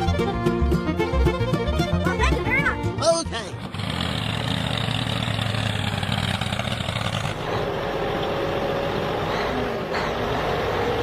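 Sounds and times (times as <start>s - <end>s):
vehicle motor running: 0.0s - 11.0s.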